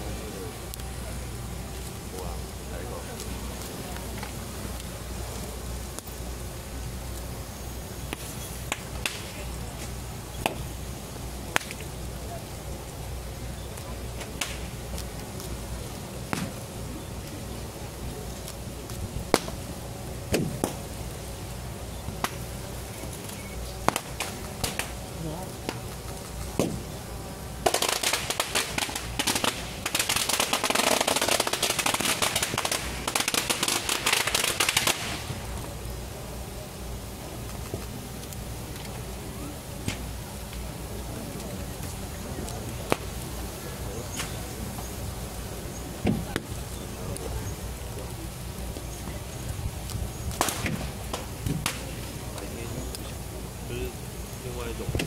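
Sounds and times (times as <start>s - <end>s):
fire crackling and popping: 0.0s - 55.0s
rush of flames: 0.0s - 55.0s.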